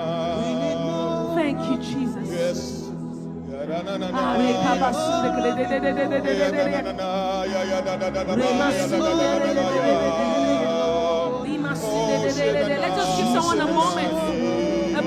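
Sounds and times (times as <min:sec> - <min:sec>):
sustained backing music: 0:00.0 - 0:15.0
voices singing worship: 0:00.0 - 0:15.0.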